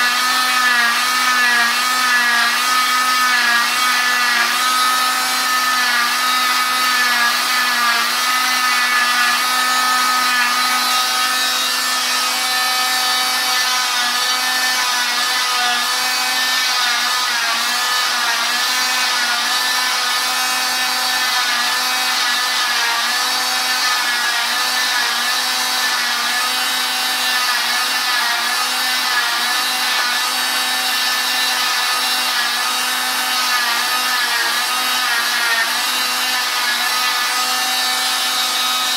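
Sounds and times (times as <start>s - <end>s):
cast saw whining: 0.0s - 38.9s.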